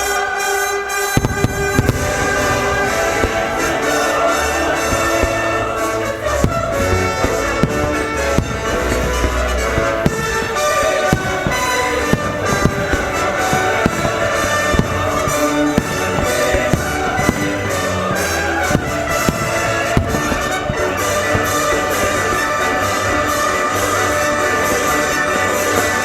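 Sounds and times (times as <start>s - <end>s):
christmas music over sound system: 0.0s - 26.0s
fireworks bursting with sharp bangs: 0.0s - 26.0s.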